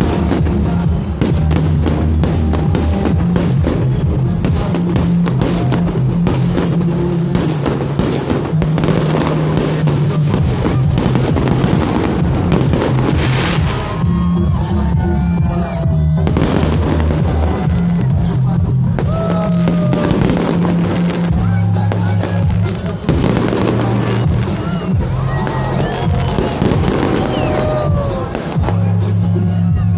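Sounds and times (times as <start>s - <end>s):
fireworks bursting and crackling: 0.0s - 29.9s
loud music with bass and drums: 0.0s - 29.9s.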